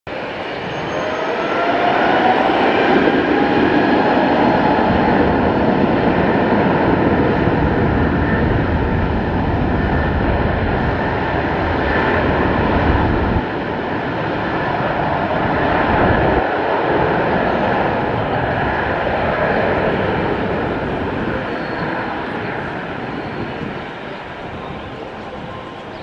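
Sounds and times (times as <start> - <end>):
jet engine roar: 0.1 - 26.0.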